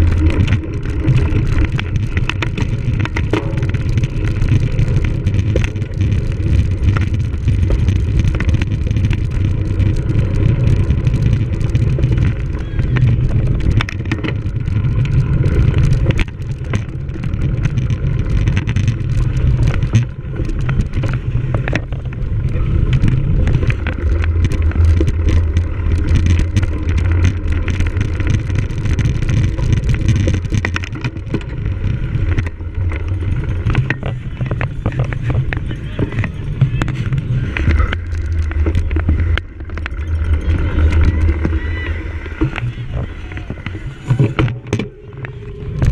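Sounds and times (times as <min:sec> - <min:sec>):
bike rattling over rough ground: 0:00.0 - 0:45.9
wind rumbling over microphone: 0:00.0 - 0:45.9.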